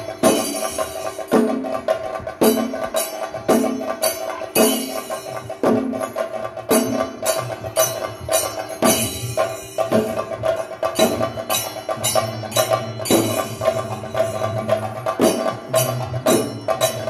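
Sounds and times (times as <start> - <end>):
heavy drum strokes: 0.0 - 17.0.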